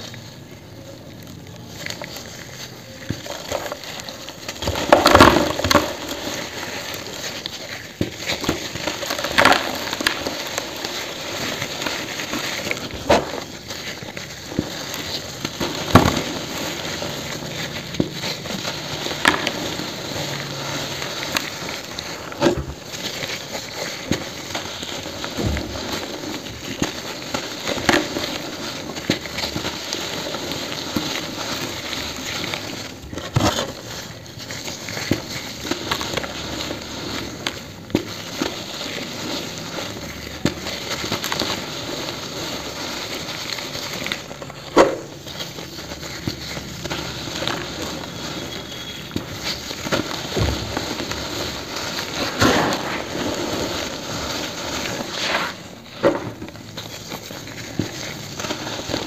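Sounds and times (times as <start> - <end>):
gritty cement crunching: 0.0 - 59.0
cement chunk cracking: 2.0 - 59.0.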